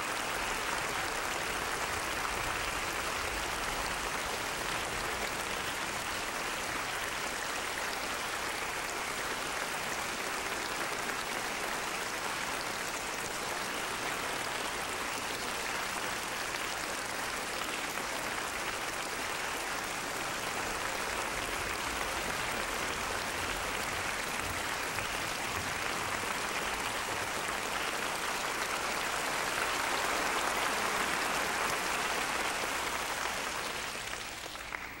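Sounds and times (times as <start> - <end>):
audience applauding: 0.0 - 35.0.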